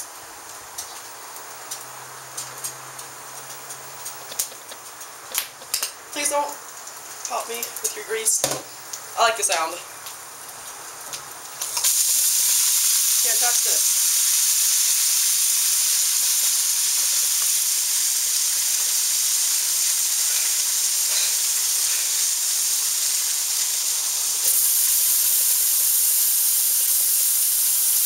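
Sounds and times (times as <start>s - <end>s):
food frying in hot oil: 0.0s - 28.0s.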